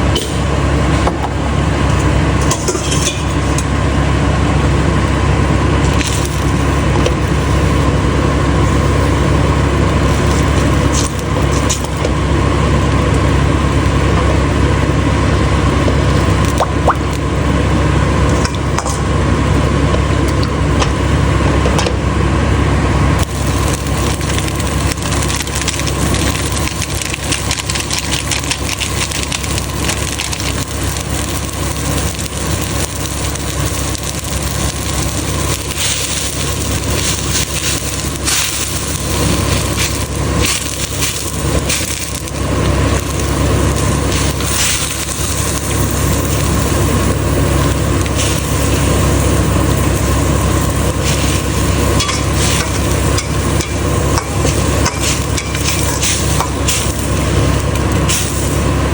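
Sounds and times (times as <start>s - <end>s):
light sizzling: 0.0s - 58.9s
steady low rumble: 0.0s - 58.9s.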